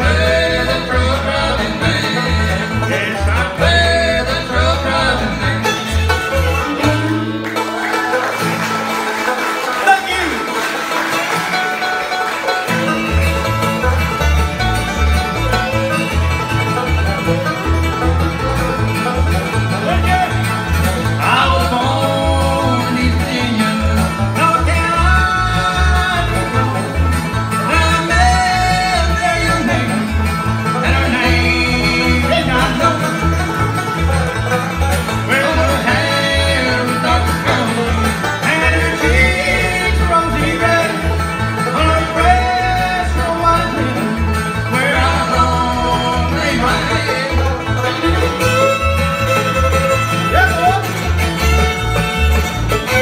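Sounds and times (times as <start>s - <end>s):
bass line: 0.0s - 9.2s, 12.7s - 53.0s
acoustic guitar: 0.0s - 53.0s
banjo: 0.0s - 53.0s
fiddle: 0.0s - 53.0s.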